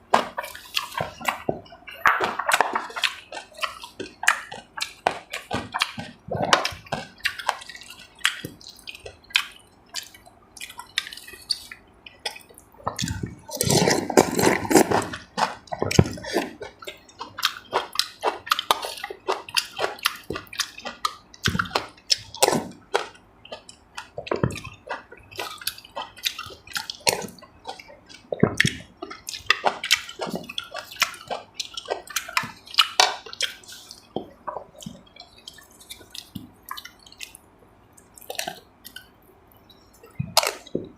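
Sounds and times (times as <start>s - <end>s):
wet chewing and lip smacking: 0.0s - 40.9s.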